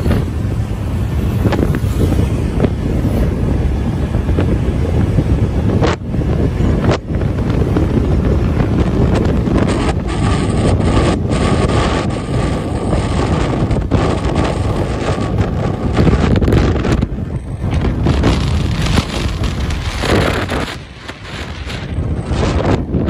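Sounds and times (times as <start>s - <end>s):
motorbike road noise: 0.0s - 23.0s
wind buffeting microphone: 0.0s - 23.0s.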